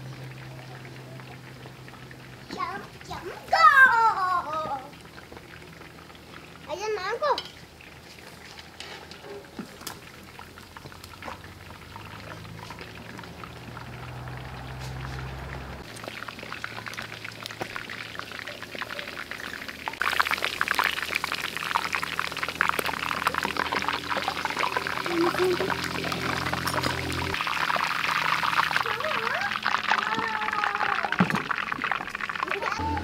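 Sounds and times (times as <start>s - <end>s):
oil sizzling and crackling: 0.0s - 33.0s.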